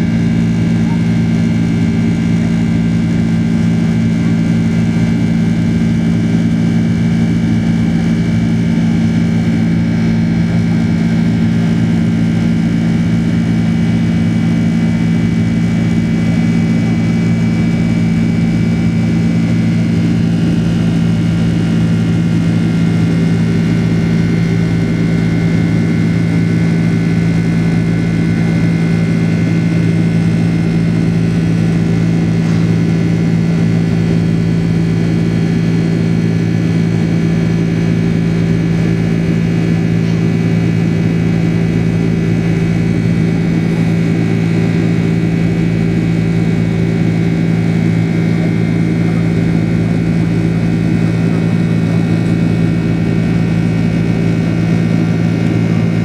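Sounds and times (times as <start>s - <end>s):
jet engine drone: 0.0s - 56.0s.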